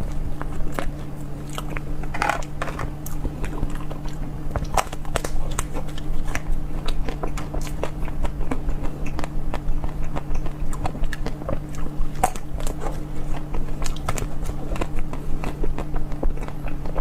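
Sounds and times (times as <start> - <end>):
biting and crunchy chewing: 0.0 - 17.0
faint low hum: 0.0 - 17.0.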